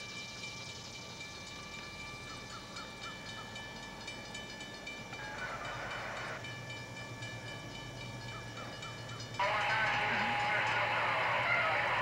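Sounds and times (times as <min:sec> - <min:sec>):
diesel locomotives howling: 0:01.4 - 0:12.0.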